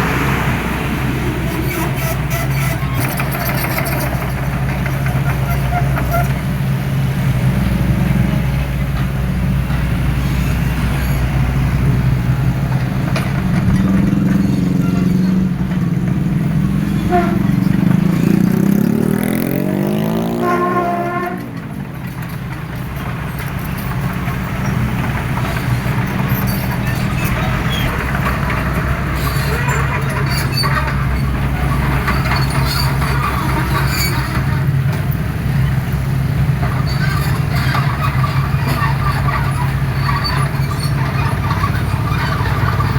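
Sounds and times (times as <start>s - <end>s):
excavator diesel engine revving: 0.0s - 42.9s
metallic squeaks and clanks: 1.4s - 42.9s.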